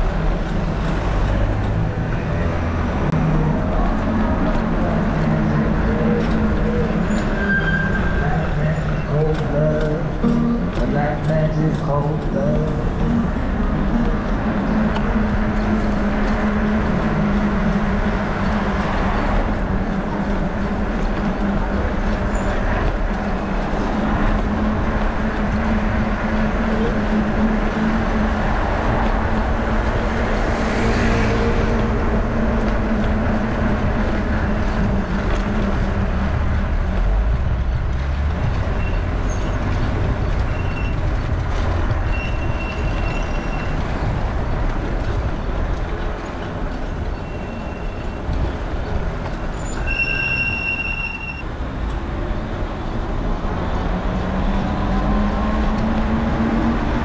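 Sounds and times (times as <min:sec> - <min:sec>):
bicycle road noise: 0:00.0 - 0:57.0
wind rumble: 0:00.0 - 0:57.0.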